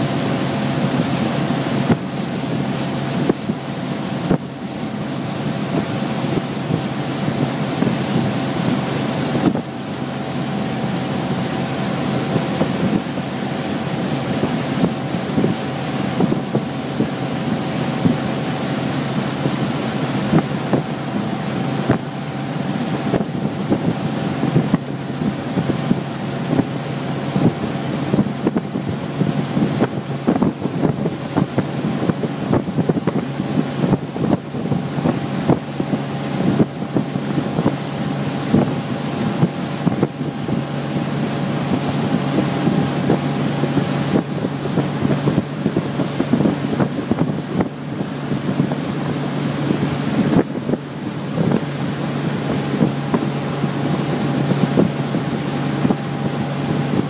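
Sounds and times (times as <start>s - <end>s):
motorboat engine running: 0.0s - 57.0s
water rushing in wake: 0.0s - 57.0s
wind buffeting microphone: 0.0s - 57.0s.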